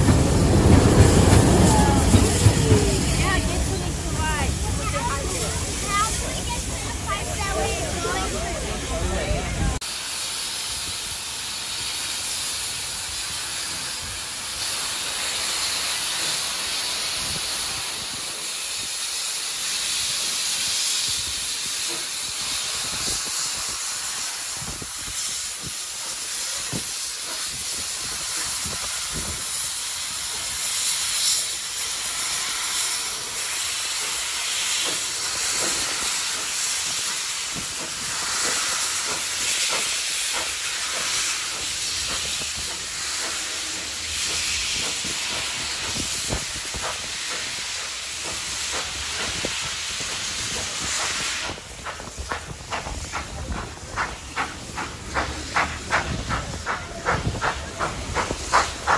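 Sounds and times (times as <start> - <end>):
steam locomotive hissing: 0.0 - 58.9.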